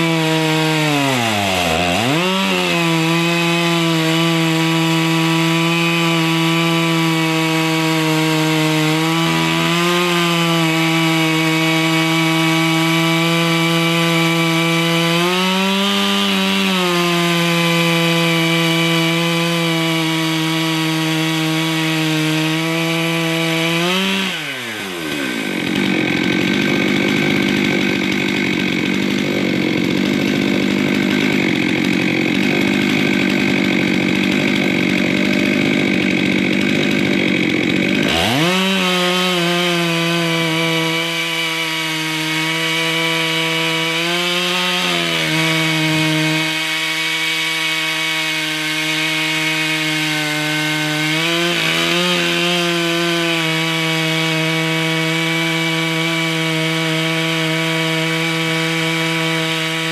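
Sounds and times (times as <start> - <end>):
chainsaw ripping log: 0.0 - 59.9.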